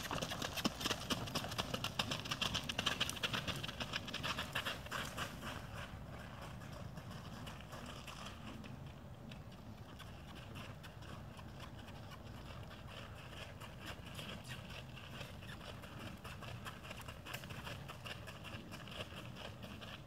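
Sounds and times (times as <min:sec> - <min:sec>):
hooves crunching on gravel: 0:00.0 - 0:20.0
low steady rumble: 0:00.0 - 0:20.0.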